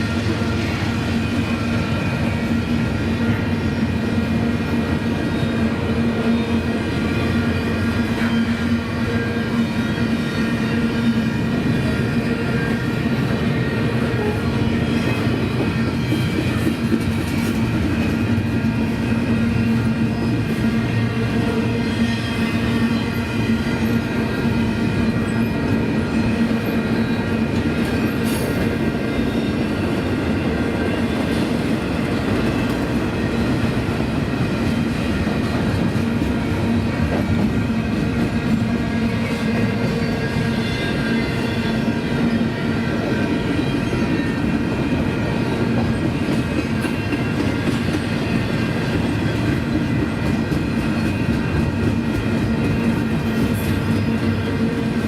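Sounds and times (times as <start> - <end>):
train wheels rumbling on rail: 0.0 - 55.0
clickety-clack over rail joints: 6.2 - 55.0.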